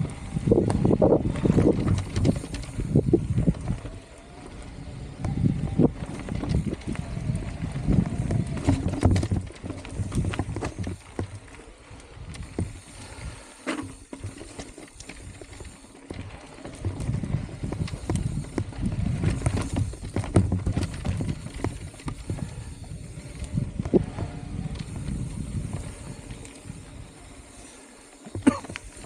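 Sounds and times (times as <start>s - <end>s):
tyre and trail rumble: 0.0s - 29.0s
bike knocks and rattles: 0.2s - 4.1s, 5.2s - 29.0s.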